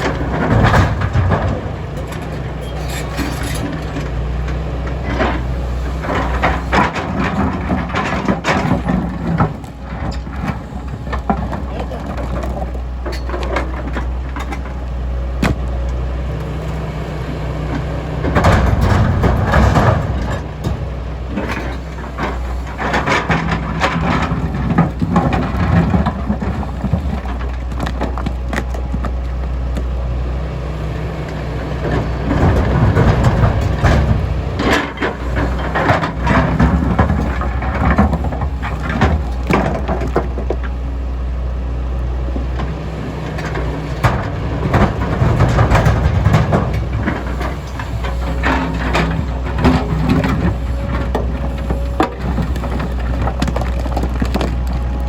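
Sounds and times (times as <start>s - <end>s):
rock crunching and clattering: 0.0s - 30.0s, 31.0s - 40.9s, 42.4s - 55.0s
diesel engine running: 0.0s - 55.0s.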